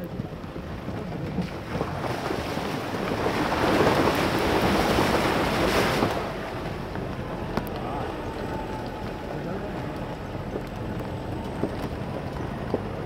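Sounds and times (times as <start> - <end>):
vehicle splashing through stream: 0.0 - 13.0.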